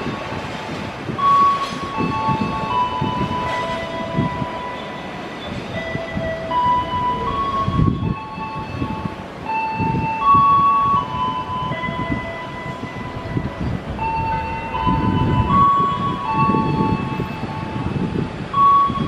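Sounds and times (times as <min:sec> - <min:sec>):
train wheels knocking and rumbling: 0:00.0 - 0:19.0.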